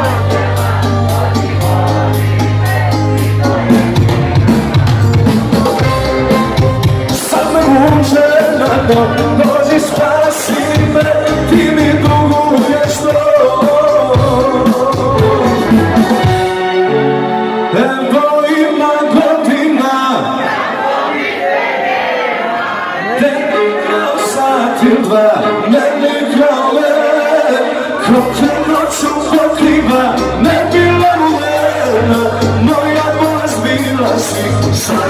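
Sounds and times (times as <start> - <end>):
man singing: 0.0 - 16.9, 17.6 - 20.4, 23.0 - 35.0
live pop band: 0.0 - 20.4, 23.4 - 35.0.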